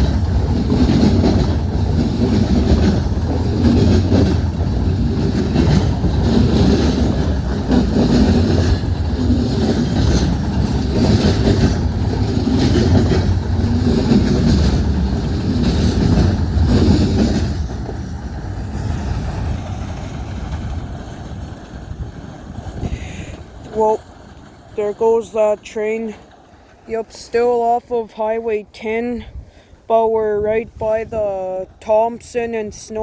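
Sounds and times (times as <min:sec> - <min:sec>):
train wheels clacking on rails: 0:00.0 - 0:29.0.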